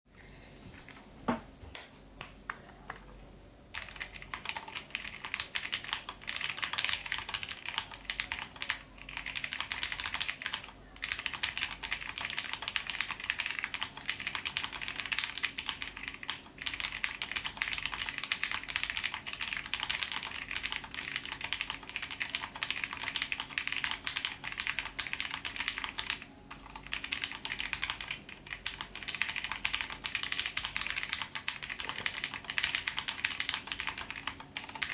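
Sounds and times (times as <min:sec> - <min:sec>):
fast typing on mechanical keyboard: 0:03.7 - 0:34.9.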